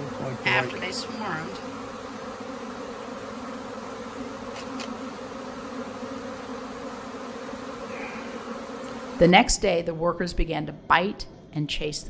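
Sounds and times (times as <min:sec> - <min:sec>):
bees buzzing: 0:00.0 - 0:11.6.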